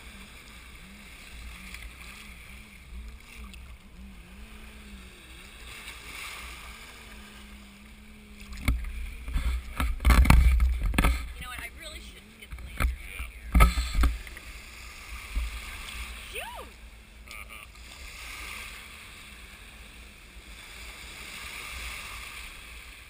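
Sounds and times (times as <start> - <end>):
low water rumble: 0.0 - 23.0
water splashing: 0.0 - 23.0.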